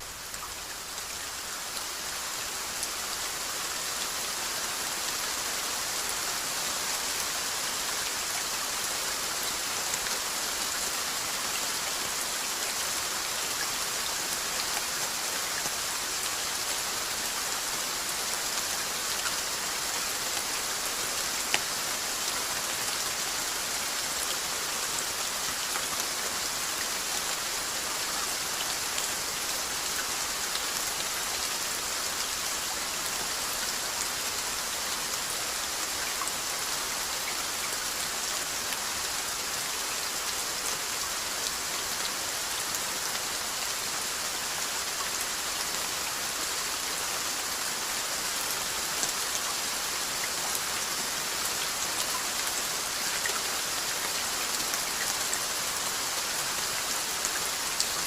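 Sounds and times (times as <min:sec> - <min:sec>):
rain hissing on a surface: 0:00.0 - 0:58.0.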